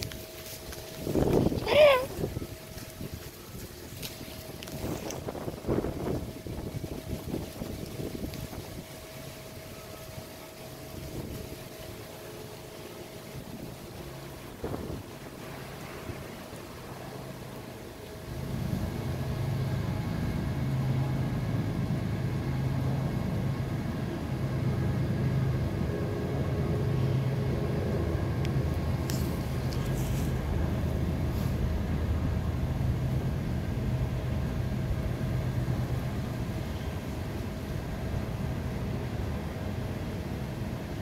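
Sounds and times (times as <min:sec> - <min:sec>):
engine hum with low drone: 0:00.0 - 0:41.0.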